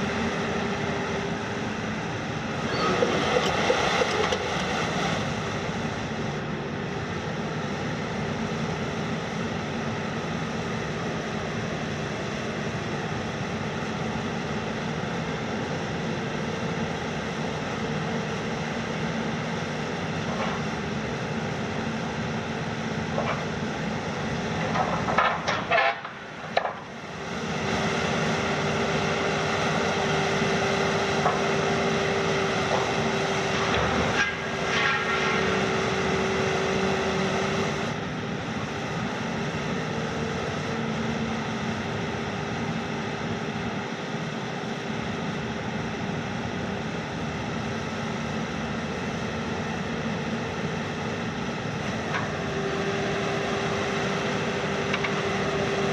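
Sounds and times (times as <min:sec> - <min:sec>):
excavator engine under load: 0:00.0 - 0:09.2, 0:14.6 - 0:44.9, 0:48.5 - 0:55.9
steady machine whine: 0:00.0 - 0:55.9.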